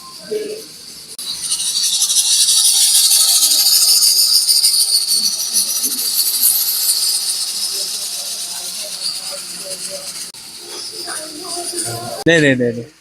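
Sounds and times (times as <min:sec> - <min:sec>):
pan sizzling: 0:00.0 - 0:12.3.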